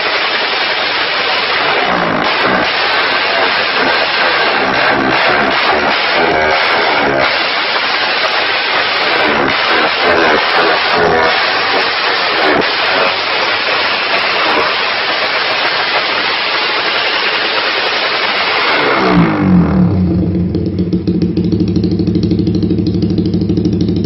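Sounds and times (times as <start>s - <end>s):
motorcycle engine revving and idling: 1.5s - 16.9s, 17.9s - 24.0s.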